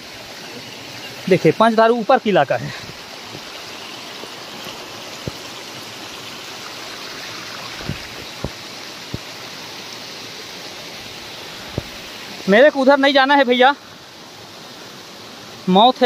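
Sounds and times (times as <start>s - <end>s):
water rushing over rock: 0.0s - 13.8s.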